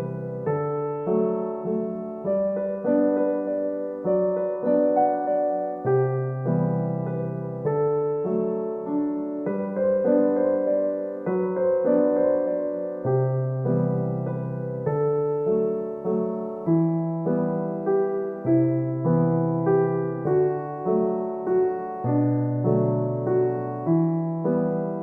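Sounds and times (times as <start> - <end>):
soft piano music: 0.0 - 25.0.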